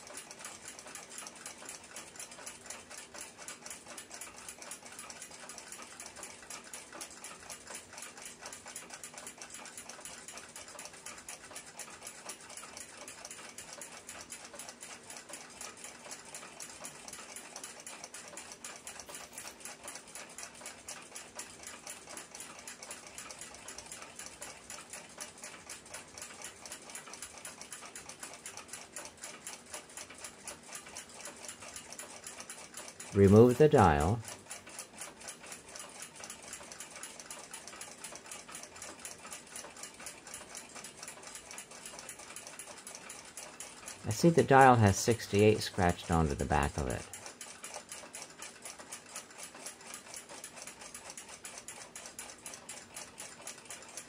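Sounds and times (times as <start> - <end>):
fast clock ticking: 0.0 - 54.0.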